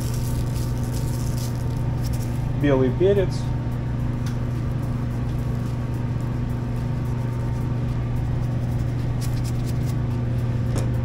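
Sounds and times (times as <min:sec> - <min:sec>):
ship machinery humming: 0:00.0 - 0:11.0.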